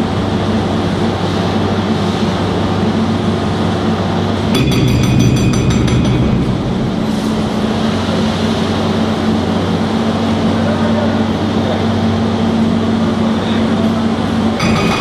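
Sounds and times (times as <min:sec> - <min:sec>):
excavator engine and hydraulics humming: 0:00.0 - 0:15.0.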